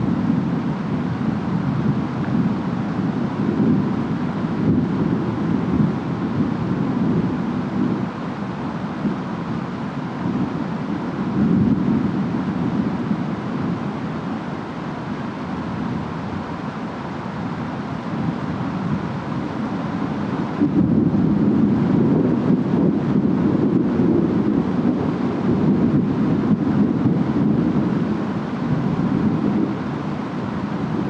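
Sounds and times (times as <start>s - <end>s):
rain: 0.0s - 31.0s
wind: 0.0s - 31.0s.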